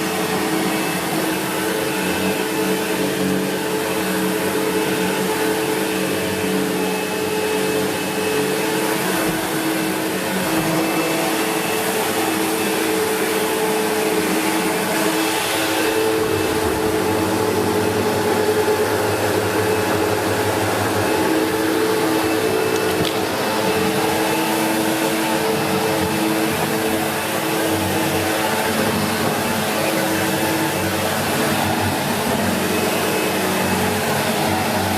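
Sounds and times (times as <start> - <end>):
upright vacuum cleaner running: 0.0 - 34.9.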